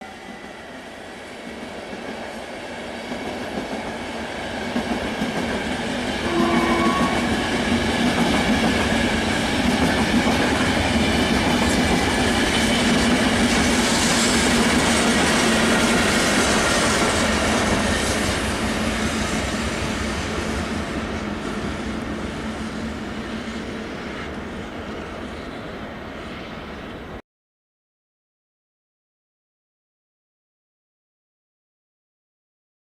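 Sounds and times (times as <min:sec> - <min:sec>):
train wheels rumbling on rails: 0:00.0 - 0:27.2.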